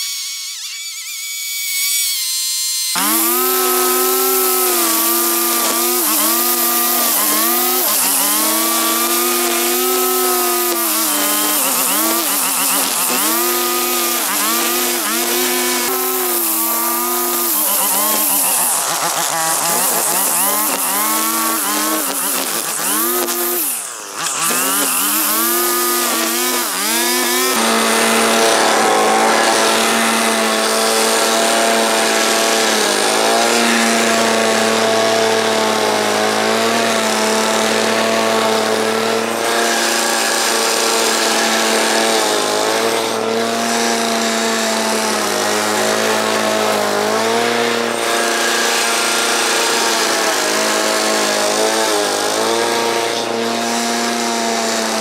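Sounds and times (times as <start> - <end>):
string trimmer revving: 0.0 - 55.0
lawn mower engine running: 2.9 - 55.0.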